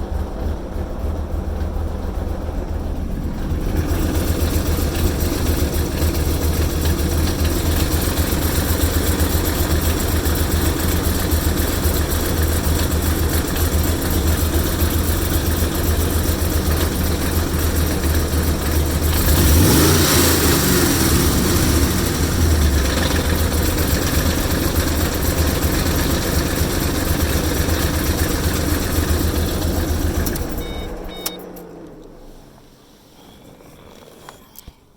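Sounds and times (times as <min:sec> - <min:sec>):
car engine idling roughly: 0:00.0 - 0:34.4.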